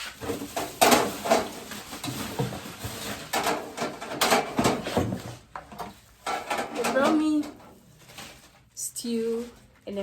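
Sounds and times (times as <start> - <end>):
objects knocking and rustling: 0.0 - 8.7.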